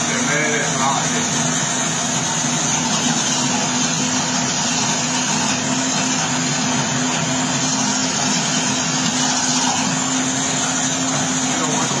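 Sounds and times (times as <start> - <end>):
blender blade whirring: 0.0 - 12.0.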